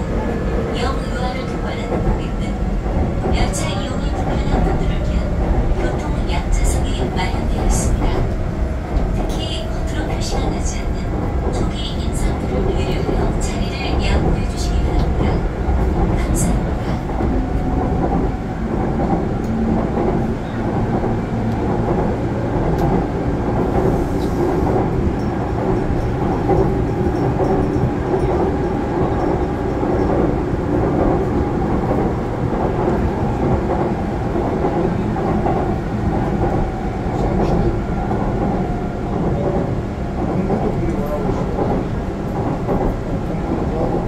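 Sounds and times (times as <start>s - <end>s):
subway train wheels on rails: 0.0s - 44.0s.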